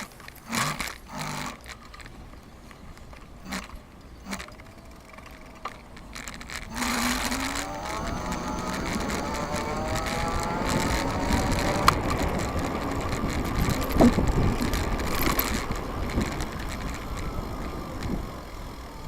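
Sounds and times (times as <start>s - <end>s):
sharp clicks: 0.0s - 18.3s
electric bike motor whining: 0.0s - 19.0s
low wind: 0.0s - 19.0s
road rumble: 0.0s - 19.0s.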